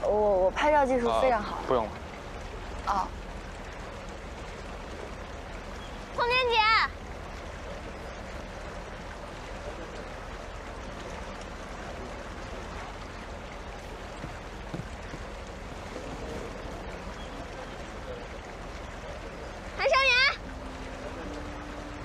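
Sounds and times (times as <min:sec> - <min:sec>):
water wash from moving boat: 0:00.0 - 0:22.0.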